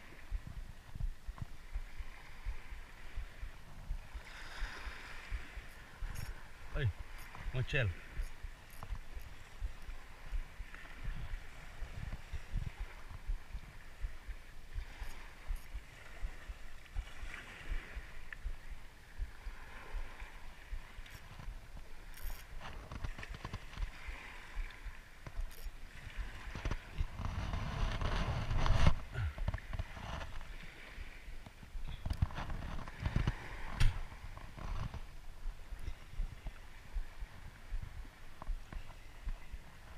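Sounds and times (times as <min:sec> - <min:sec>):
seawater sloshing and lapping: 0:00.0 - 0:35.1
rush of water: 0:00.0 - 0:39.9.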